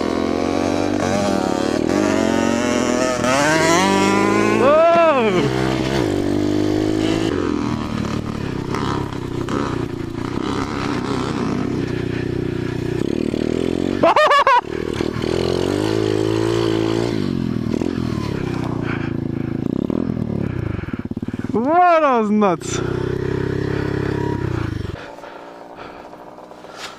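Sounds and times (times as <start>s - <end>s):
dirt bike engine revving: 0.0s - 26.9s
dirt bike engine running: 0.0s - 26.9s.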